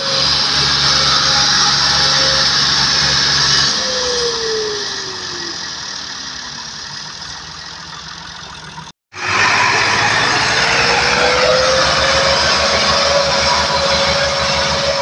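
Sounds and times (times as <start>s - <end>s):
engine with rapid low pulse: 0.0s - 15.0s
tractor engine whine: 0.0s - 15.0s.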